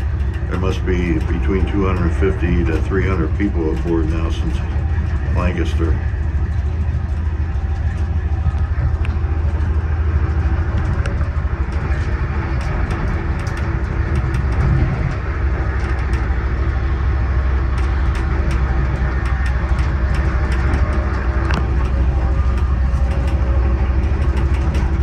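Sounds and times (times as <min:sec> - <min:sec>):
light clicks and rattles: 0:00.0 - 0:25.0
train wheels rumbling on rail: 0:00.0 - 0:25.0.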